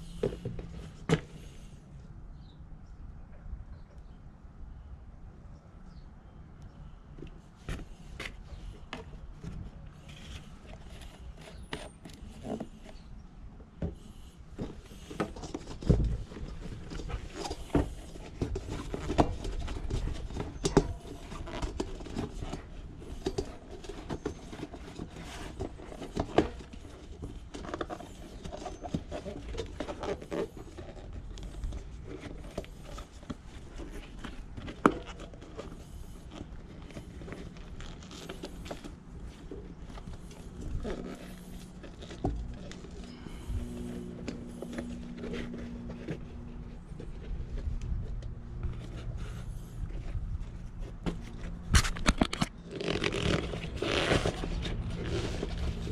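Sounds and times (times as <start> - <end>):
hands working bike tire and rim: 7.2 - 55.9.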